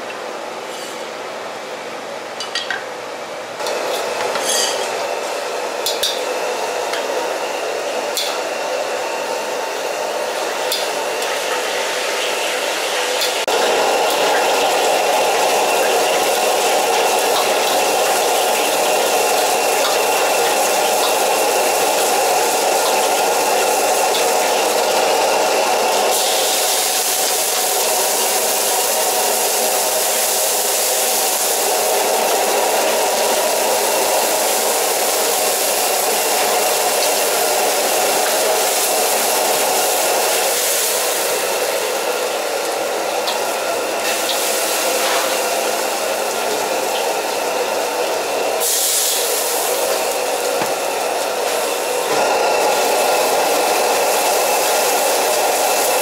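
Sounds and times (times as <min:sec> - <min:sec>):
frying in oil: 0:03.6 - 0:56.0
gas burner rushing: 0:03.6 - 0:56.0
liquid sizzling in hot wok: 0:03.6 - 0:56.0.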